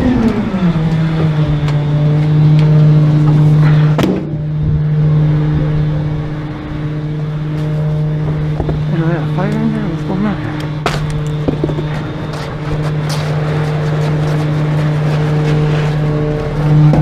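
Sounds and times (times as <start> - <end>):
garbage truck engine running: 0.0 - 17.0.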